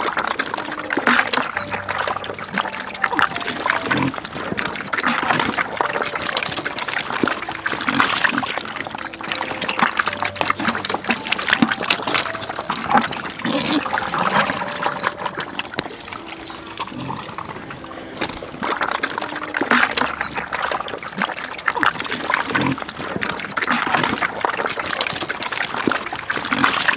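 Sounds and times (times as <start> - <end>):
pigs slurping and chomping feed: 0.0 - 26.9.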